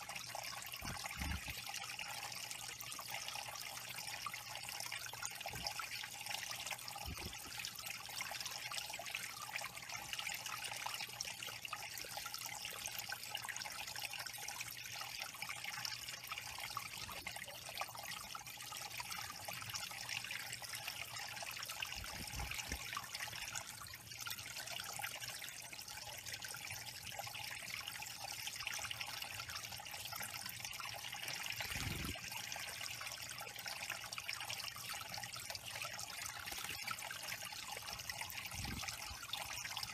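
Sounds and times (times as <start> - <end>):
small waterfall trickling: 0.0 - 39.9.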